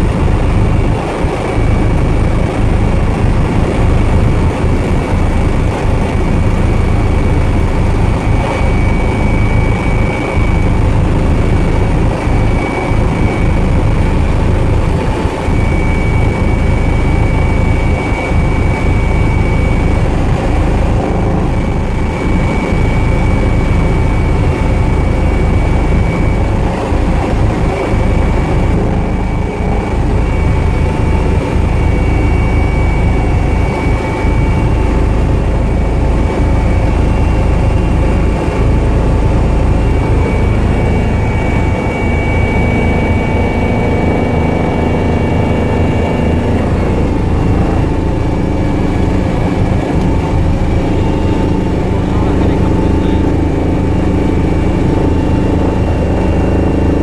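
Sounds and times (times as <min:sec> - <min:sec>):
helicopter engine and rotor drone: 0:00.0 - 0:57.0
thin high whine: 0:00.0 - 0:57.0.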